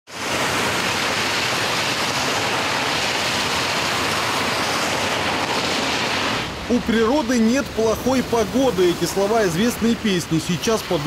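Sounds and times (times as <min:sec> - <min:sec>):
cars driving through deep water: 0:00.1 - 0:11.0
tyres throwing rushing spray: 0:00.1 - 0:11.0.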